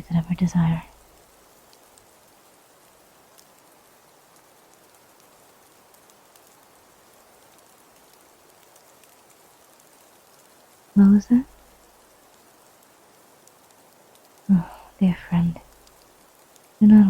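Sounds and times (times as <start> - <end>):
light rain hiss: 0.0 - 17.0
raindrop ticks: 0.0 - 17.0.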